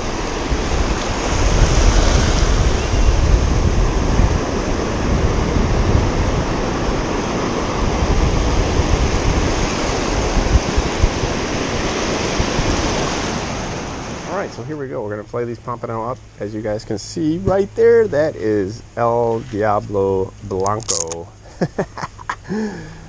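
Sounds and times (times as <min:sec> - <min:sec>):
wind buffeting microphone: 0:00.0 - 0:21.1
ocean surf washing: 0:00.0 - 0:23.0.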